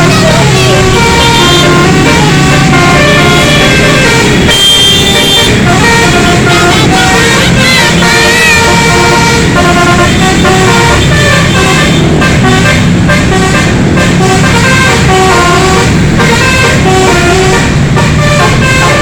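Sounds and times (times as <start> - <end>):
bus musical horn playing tune: 0.0 - 19.0.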